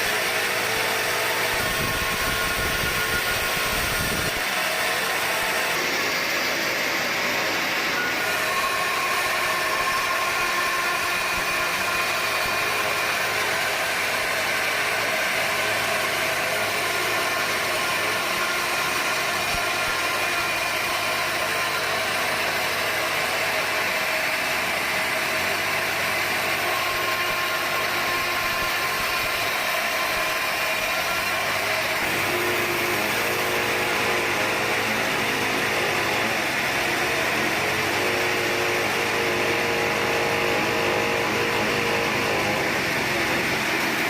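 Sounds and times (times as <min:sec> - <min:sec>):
sawmill machinery running: 0:00.0 - 0:44.0.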